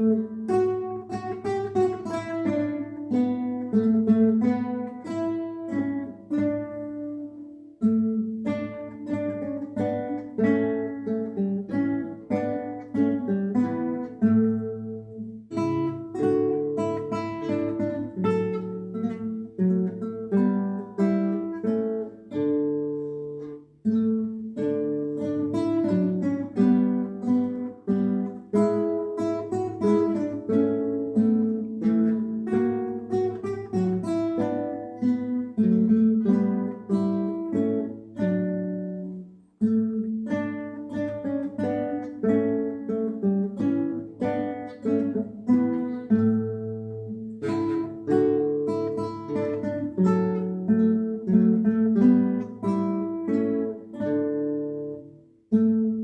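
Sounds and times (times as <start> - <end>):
guitar ensemble playing a carol: 0.0 - 56.0.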